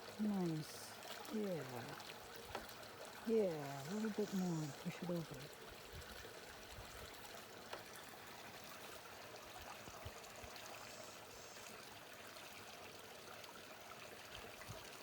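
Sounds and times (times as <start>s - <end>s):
brook babbling over rocks: 0.0s - 15.0s.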